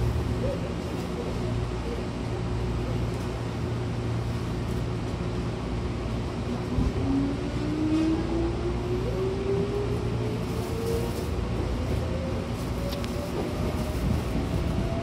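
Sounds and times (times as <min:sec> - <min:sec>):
train interior low hum: 0:00.0 - 0:15.0.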